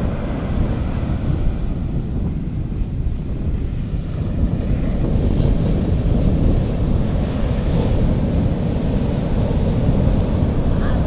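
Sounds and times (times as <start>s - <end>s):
waves washing on beach: 0.0s - 11.0s
wind buffeting microphone: 0.0s - 11.0s.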